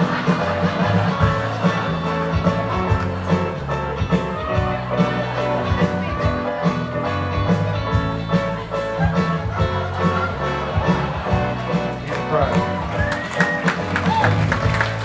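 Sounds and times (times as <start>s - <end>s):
upbeat music with plucked guitar: 0.0s - 15.0s.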